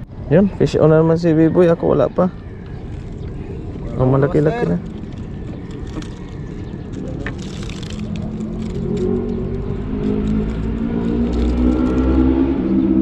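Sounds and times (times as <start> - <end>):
deep rumble: 0.0 - 13.0
engine running: 2.3 - 13.0.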